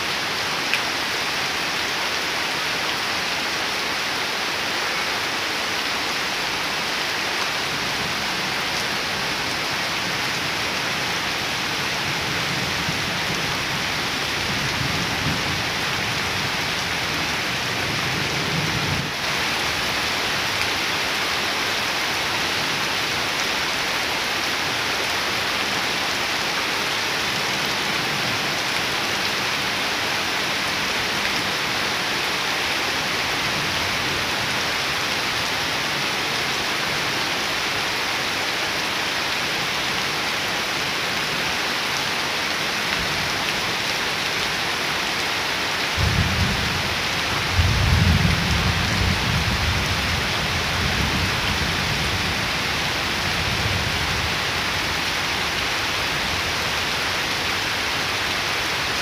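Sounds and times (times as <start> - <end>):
heavy rain on water and leaves: 0.0 - 59.0.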